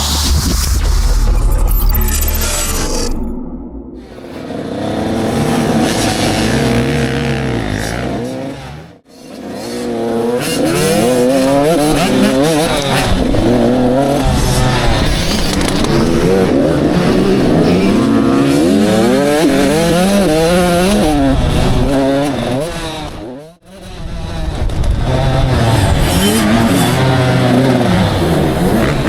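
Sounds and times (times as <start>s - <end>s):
motocross bikes racing: 4.0s - 29.0s.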